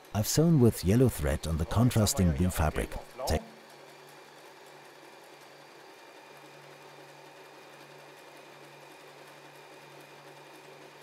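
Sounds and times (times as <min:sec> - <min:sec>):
sewing machine running: 0:00.4 - 0:11.0.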